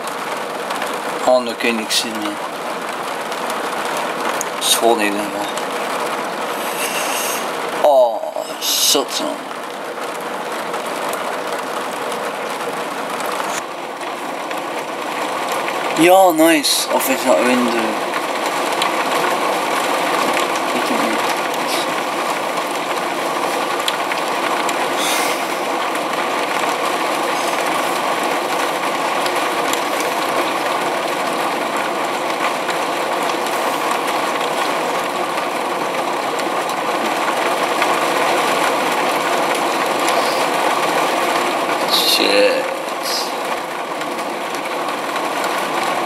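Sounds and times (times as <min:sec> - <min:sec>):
rain falling: 0:00.0 - 0:46.0
raindrops pattering: 0:00.0 - 0:46.0.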